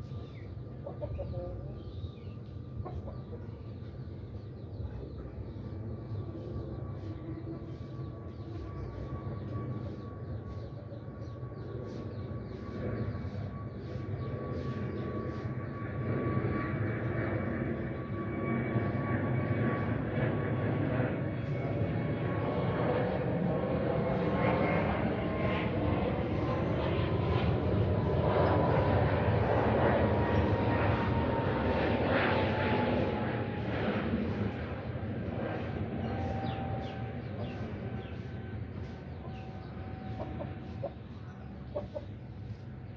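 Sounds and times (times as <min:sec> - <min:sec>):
aircraft engine drone: 0:01.5 - 0:42.9.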